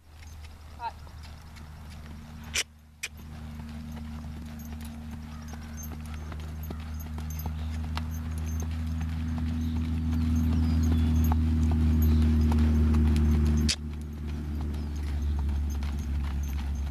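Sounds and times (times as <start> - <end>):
horse hooves trotting on dirt: 0.0 - 16.9
steady low hum: 0.0 - 16.9.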